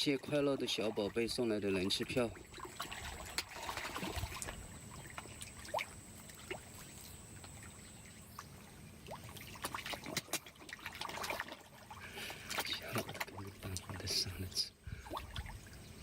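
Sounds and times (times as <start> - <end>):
pond water trickling and lapping: 0.0 - 16.0.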